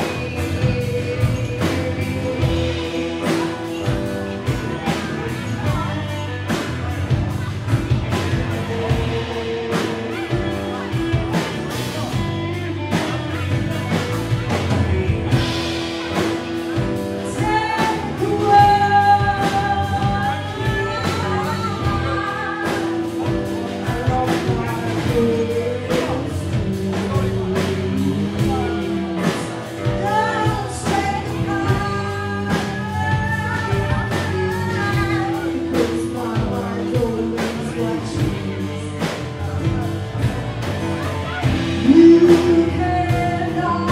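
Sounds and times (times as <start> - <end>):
woman singing lead: 0.0 - 7.4, 8.0 - 39.3, 41.3 - 43.9
live rock band playing: 0.0 - 43.9
steady drum beat: 0.0 - 43.9.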